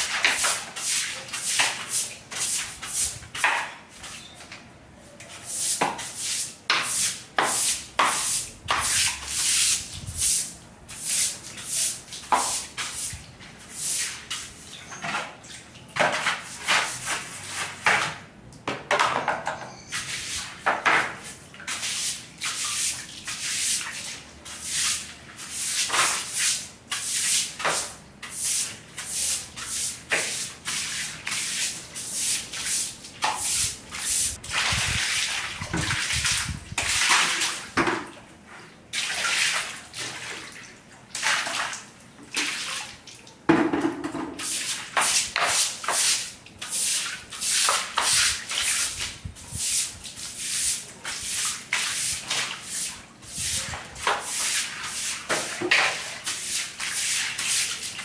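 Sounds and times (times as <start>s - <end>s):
broom sweeping tiled floor: 0.0s - 18.3s, 19.0s - 40.5s, 41.2s - 58.0s.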